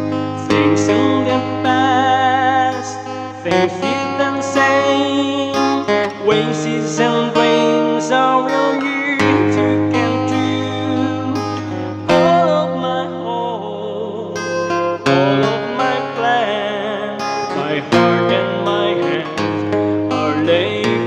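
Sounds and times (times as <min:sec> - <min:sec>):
acoustic guitar strumming: 0:00.0 - 0:21.0
man singing with vibrato: 0:00.0 - 0:21.0.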